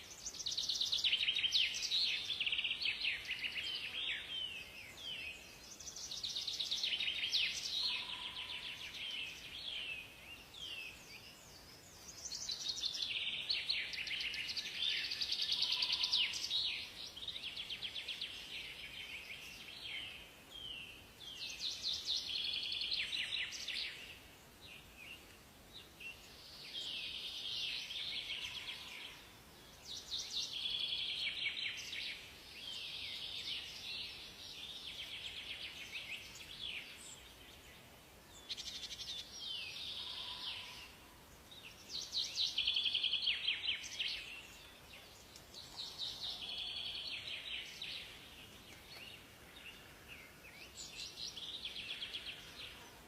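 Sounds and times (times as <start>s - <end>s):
faint steady hiss: 0.0s - 53.0s
songbirds trilling: 0.0s - 53.0s.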